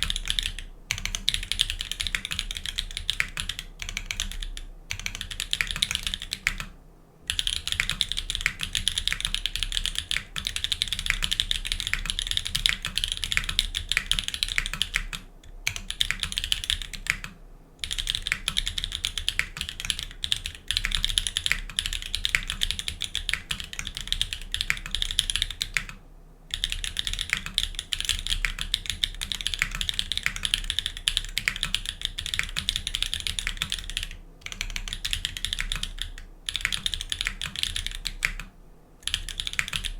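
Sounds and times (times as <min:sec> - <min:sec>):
mechanical keyboard typing: 0:00.0 - 0:06.7, 0:07.3 - 0:39.9.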